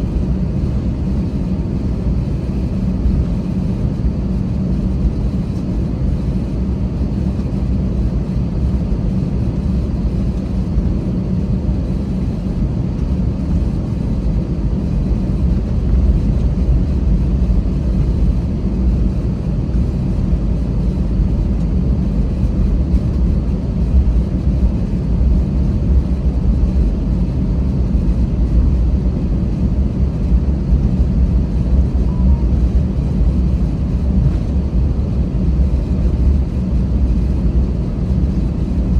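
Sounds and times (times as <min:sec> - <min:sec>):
jet engine rumble inside cabin: 0:00.0 - 0:38.9.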